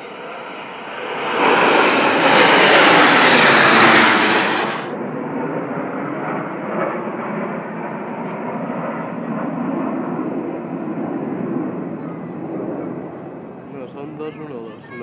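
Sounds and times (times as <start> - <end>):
jet formation passing overhead: 0.0 - 14.4.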